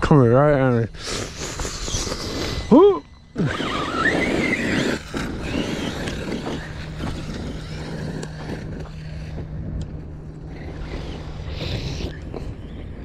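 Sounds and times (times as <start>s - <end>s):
electric motor whining: 0.9s - 13.0s.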